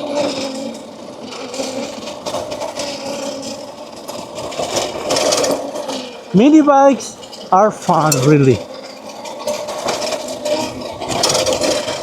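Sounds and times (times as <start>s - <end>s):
bike chain and frame rattling: 0.0s - 12.0s
electric motor whine: 0.0s - 12.0s.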